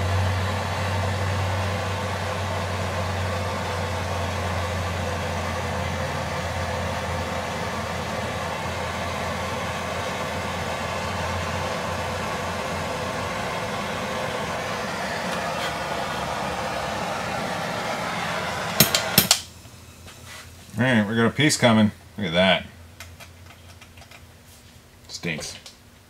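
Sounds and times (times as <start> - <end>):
blow torch hissing and rumbling: 0.0 - 22.4.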